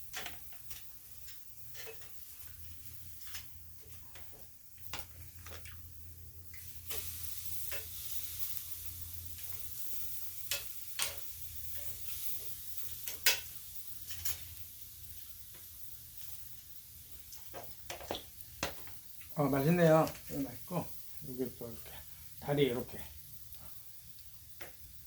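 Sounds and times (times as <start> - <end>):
meat sizzling on a grill: 0.0 - 25.0
sharp pops and crackles: 0.0 - 25.0.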